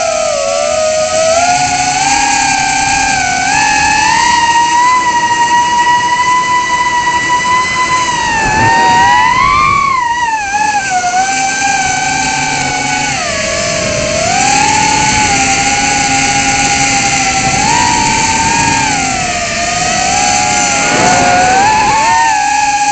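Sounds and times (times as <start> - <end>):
quadcopter motors whining: 0.0 - 22.9.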